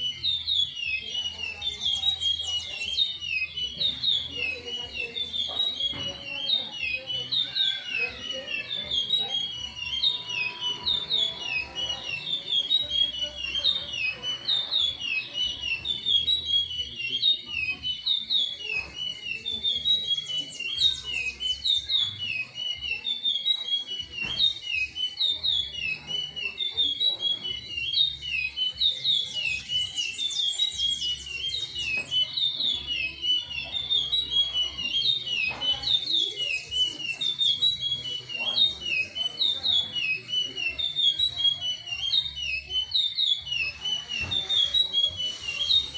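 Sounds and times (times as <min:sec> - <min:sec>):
finch singing whistled notes: 0:00.0 - 0:45.9.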